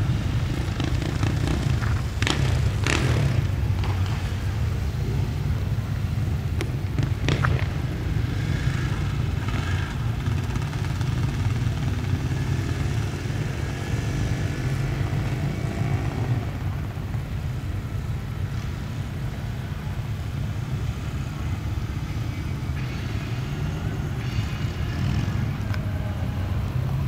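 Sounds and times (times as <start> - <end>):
motorcycle engines rumbling: 0.0 - 27.0.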